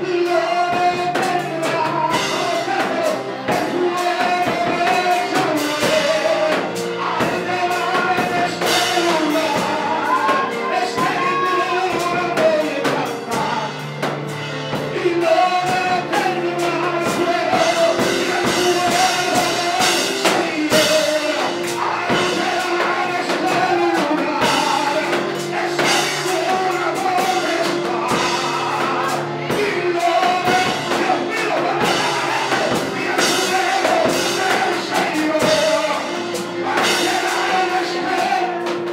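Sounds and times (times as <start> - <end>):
man singing through microphone: 0.0 - 14.0, 14.7 - 38.9
drum kit playing: 0.0 - 38.9.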